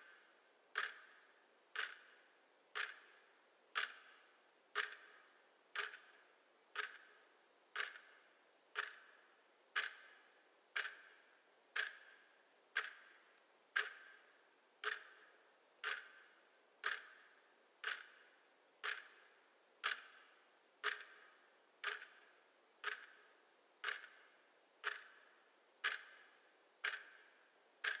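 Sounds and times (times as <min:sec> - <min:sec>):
clock ticking: 0:00.0 - 0:09.2, 0:09.8 - 0:28.0.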